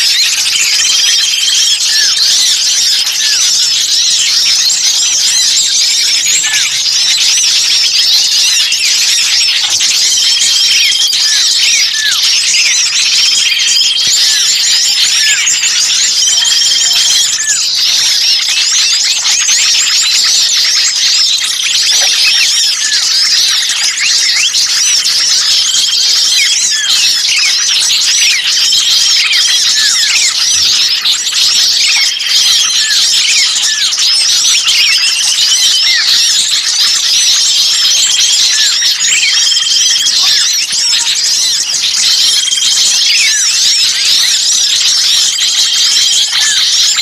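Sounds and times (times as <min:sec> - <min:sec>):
chorus of small birds calling: 0:00.0 - 0:47.0.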